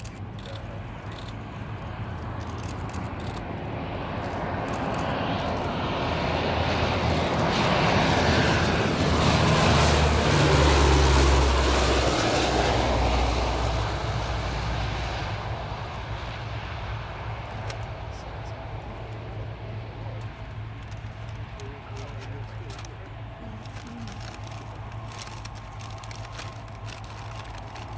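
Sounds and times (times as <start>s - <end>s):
turboprop aircraft flying past low: 0.0s - 27.9s.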